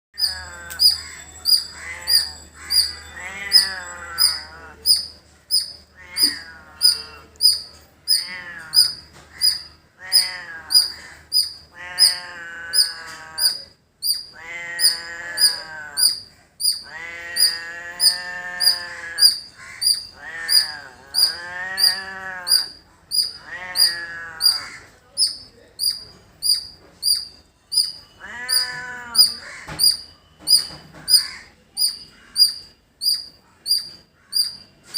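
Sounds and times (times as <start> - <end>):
squirrel chirping: 0.2 - 34.9
wavering animal calls: 0.2 - 34.9.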